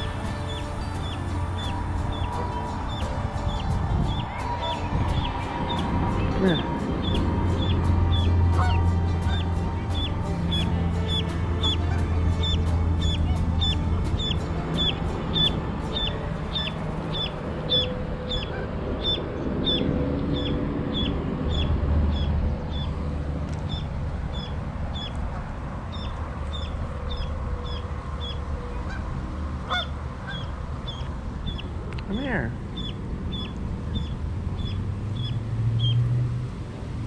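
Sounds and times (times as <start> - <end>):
duckling peeping: 0.0 - 29.0, 29.7 - 31.7, 32.7 - 36.0.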